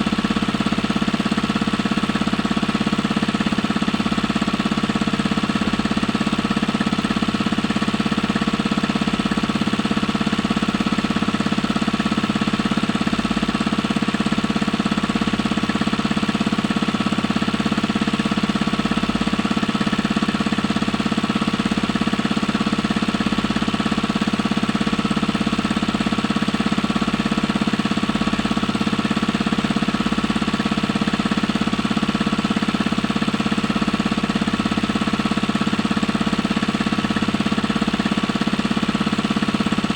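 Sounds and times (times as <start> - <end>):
small engine knocking: 0.0 - 39.9.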